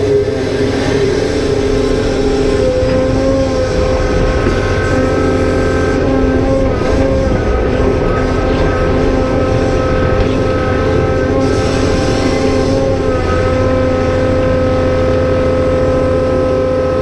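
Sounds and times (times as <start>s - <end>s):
diesel engine under load: 0.0s - 17.0s
hydraulic pump whining: 0.0s - 17.0s.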